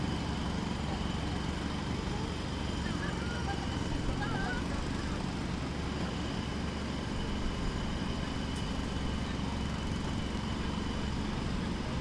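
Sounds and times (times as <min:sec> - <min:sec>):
urban street noise: 0:00.0 - 0:12.0.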